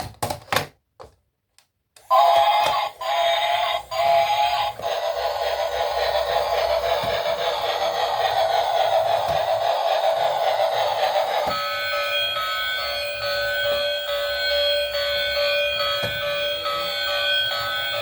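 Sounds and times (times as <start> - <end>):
toy electronic siren: 2.1 - 18.0.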